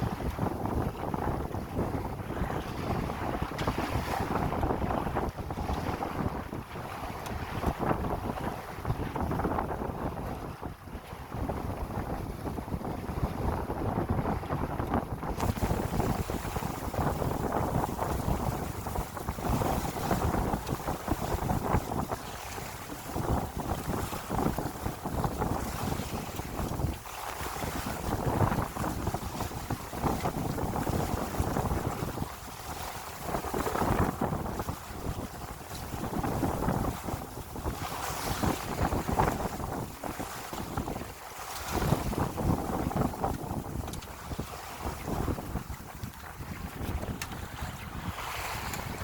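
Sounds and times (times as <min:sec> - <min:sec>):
water washing alongside boat: 0:00.0 - 0:49.0
wind buffeting microphone: 0:00.0 - 0:49.0.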